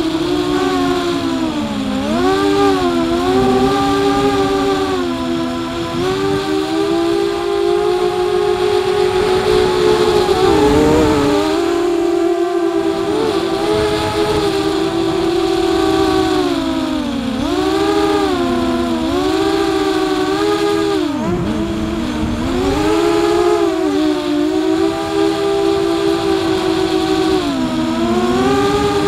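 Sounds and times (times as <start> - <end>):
electric motors and propellers whining: 0.0 - 29.0.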